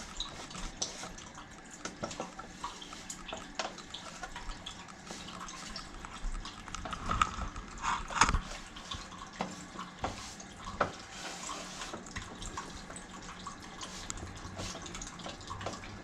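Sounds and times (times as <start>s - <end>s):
tap running into a sink: 0.0s - 6.1s, 6.7s - 16.0s.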